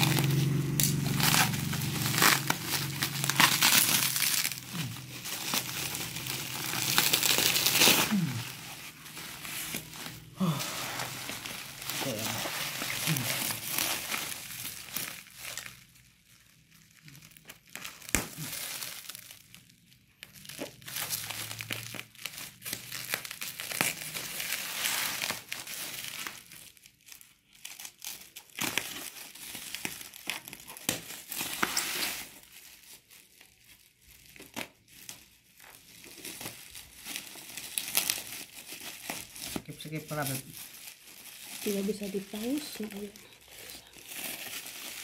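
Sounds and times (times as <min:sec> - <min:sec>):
bubble wrap crinkling: 0:00.0 - 0:45.0.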